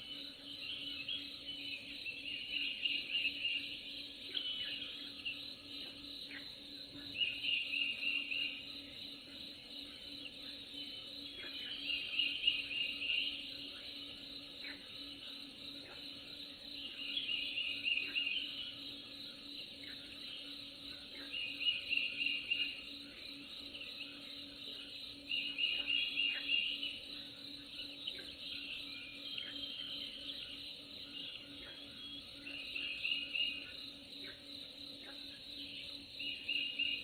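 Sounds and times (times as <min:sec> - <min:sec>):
insect chorus: 0:00.0 - 0:37.0.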